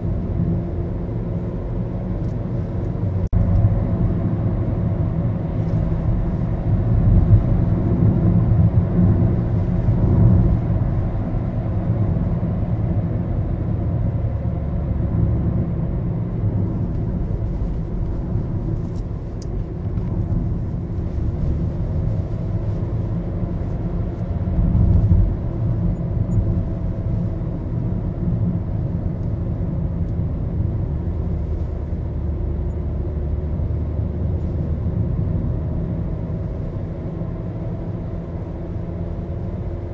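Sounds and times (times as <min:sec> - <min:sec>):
car engine hum: 0:00.0 - 0:39.9
low road rumble: 0:00.0 - 0:39.9.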